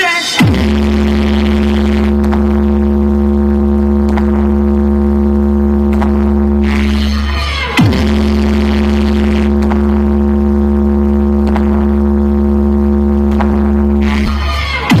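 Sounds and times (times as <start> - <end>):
deep bass tone from speakers: 0.4 - 15.0
steady hum: 0.4 - 15.0.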